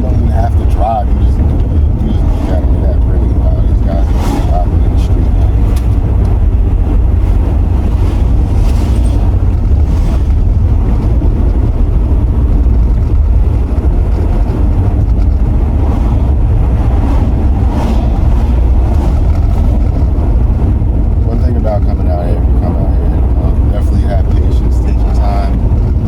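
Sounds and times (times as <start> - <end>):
car engine rumble: 0.0 - 26.0
wind noise: 0.0 - 26.0.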